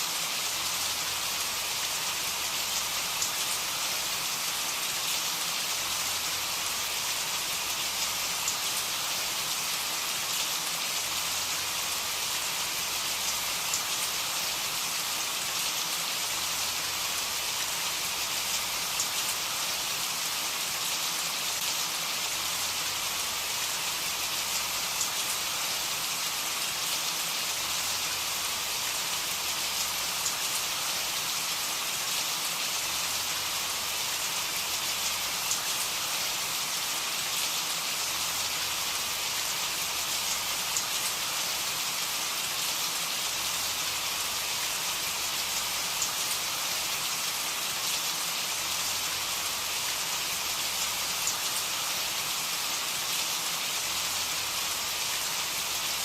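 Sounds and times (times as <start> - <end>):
steady rain falling: 0.0 - 56.0
sharp raindrops: 0.1 - 56.0.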